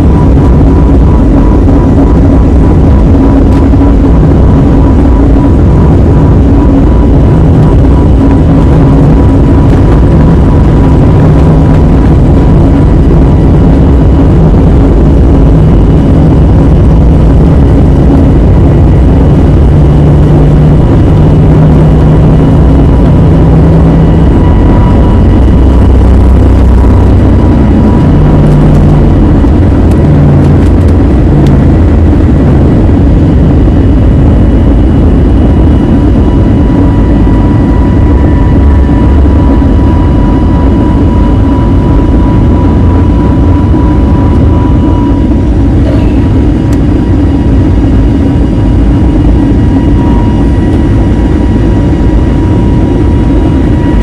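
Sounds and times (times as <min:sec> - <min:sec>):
faint whining tones: 0:00.0 - 0:54.0
jet engine roar in cabin: 0:00.0 - 0:54.0.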